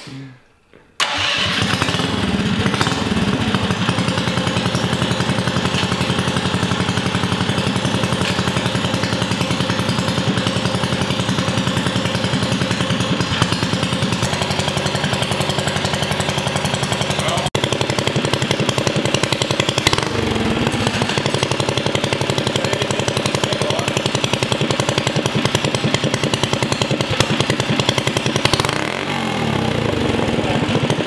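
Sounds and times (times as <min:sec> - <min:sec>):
single-cylinder engine running: 0:01.0 - 0:31.0.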